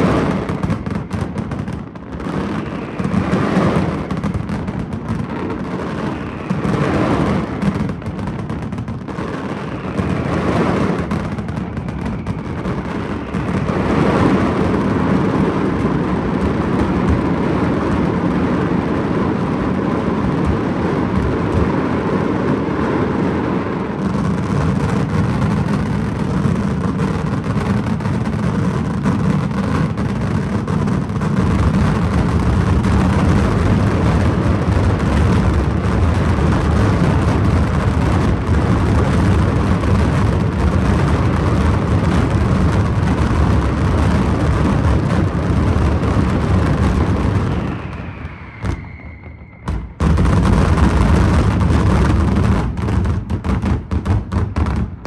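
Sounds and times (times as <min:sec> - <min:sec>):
fireworks bursts and crackle: 0:00.0 - 0:55.0.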